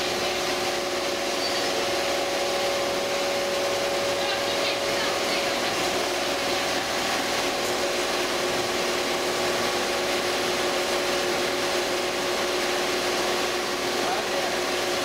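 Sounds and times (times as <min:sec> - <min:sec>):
quilting machine running: 0:00.0 - 0:15.0.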